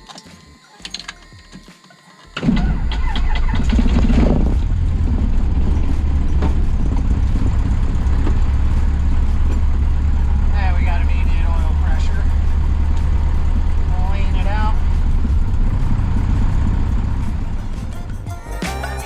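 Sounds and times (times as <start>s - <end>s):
airplane engine starting: 0.0s - 18.2s.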